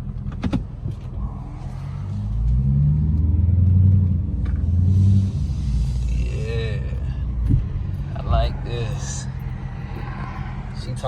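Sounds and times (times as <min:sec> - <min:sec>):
loud car engine rumbling: 0:00.0 - 0:11.0.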